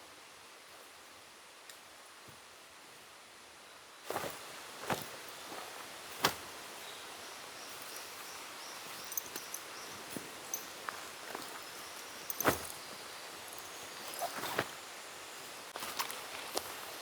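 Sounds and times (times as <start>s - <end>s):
quiet forest background: 0.0s - 17.0s.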